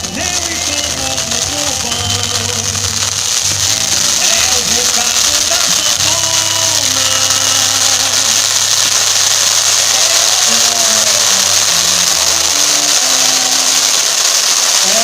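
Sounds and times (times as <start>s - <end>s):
loud rushing hiss: 0.0s - 15.0s.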